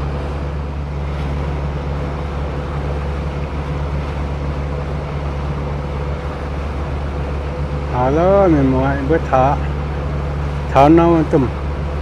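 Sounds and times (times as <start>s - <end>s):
boat motor droning: 0.0s - 12.0s
faint steady hum: 0.0s - 12.0s.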